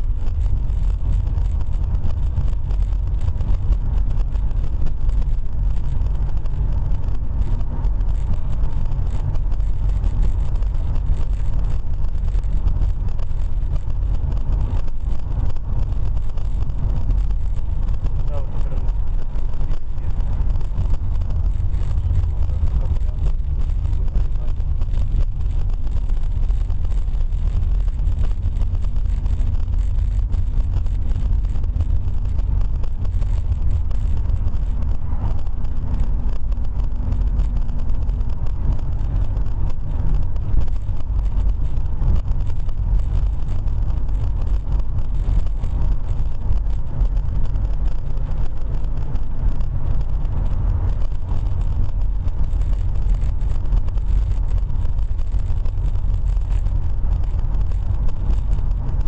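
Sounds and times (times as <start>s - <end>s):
car engine rumble: 0.0s - 59.0s
faint steady drone: 0.0s - 59.0s
tyres on road: 0.0s - 59.0s.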